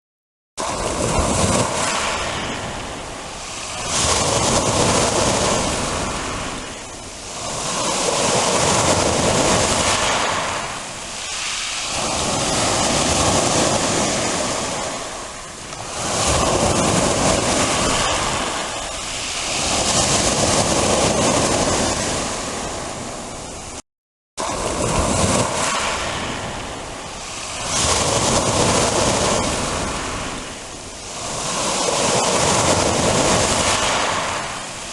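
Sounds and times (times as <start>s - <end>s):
surf breaking on shore: 0.6s - 23.8s, 24.4s - 34.9s.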